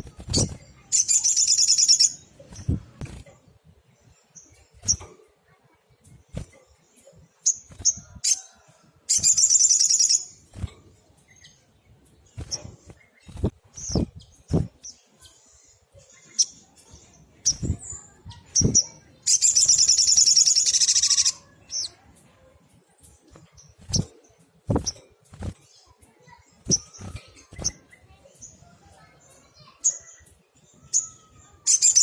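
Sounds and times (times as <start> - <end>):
bird chips and buzzy trill: 0.0 - 3.5, 9.1 - 32.0.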